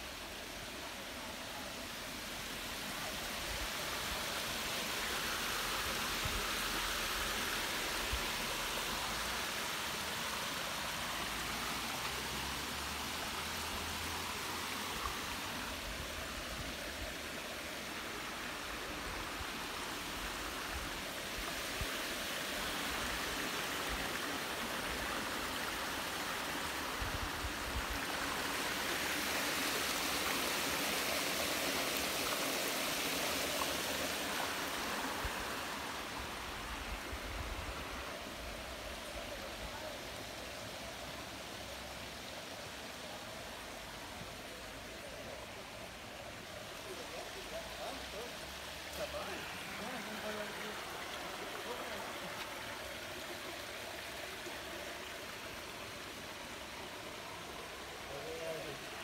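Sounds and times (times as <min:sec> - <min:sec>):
stream water rushing over stones: 0:00.0 - 0:59.0.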